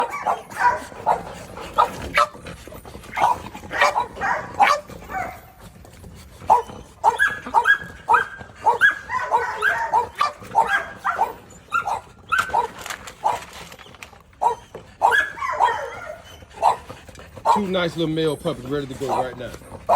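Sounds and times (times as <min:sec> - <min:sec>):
puppies barking and yipping: 0:00.0 - 0:19.9.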